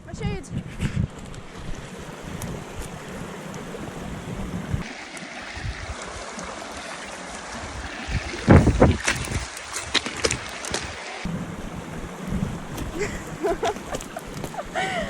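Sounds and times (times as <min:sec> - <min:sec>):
creek water rushing: 0:01.4 - 0:15.0.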